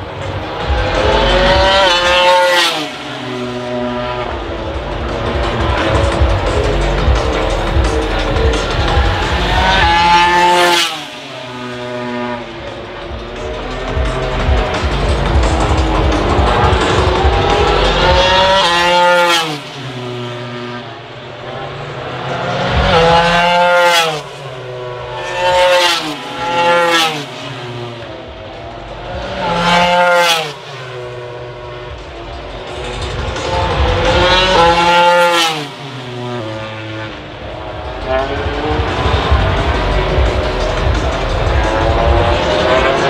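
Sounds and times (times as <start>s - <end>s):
racing motorcycles passing at full throttle: 0.0s - 43.0s.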